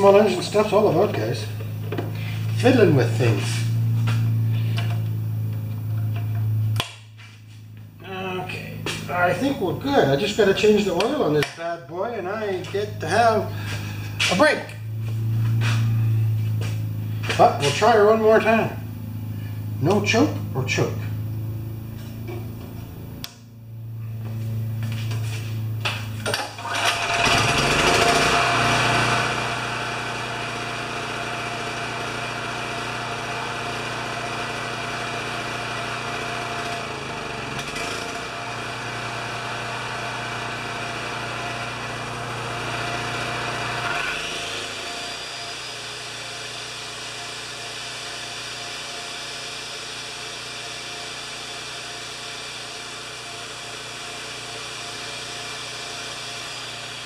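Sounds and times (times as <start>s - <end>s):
generator engine cranking: 0.0s - 45.9s
generator engine running: 0.0s - 57.0s.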